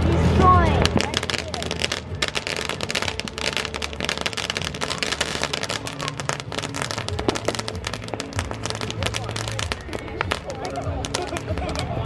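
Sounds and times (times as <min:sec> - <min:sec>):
firework crackling: 0:00.0 - 0:12.0.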